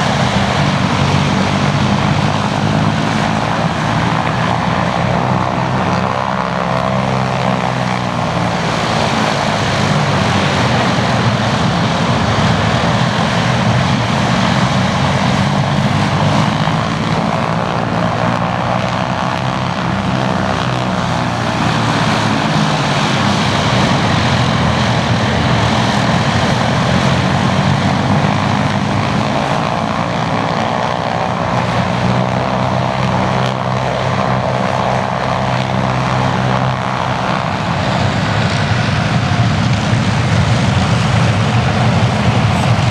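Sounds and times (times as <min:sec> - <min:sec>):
propeller aircraft engines droning: 0:00.0 - 0:42.9.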